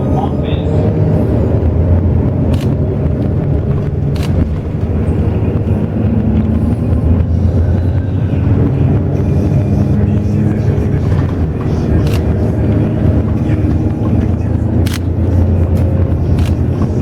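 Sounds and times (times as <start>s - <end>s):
bus engine droning: 0.0s - 17.0s
road noise: 0.0s - 17.0s.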